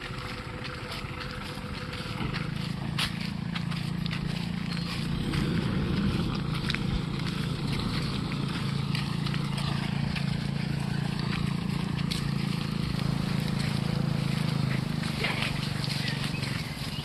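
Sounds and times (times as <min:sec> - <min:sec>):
footsteps on wet ground: 0:00.0 - 0:17.0
pickup truck engine idling: 0:00.0 - 0:17.0.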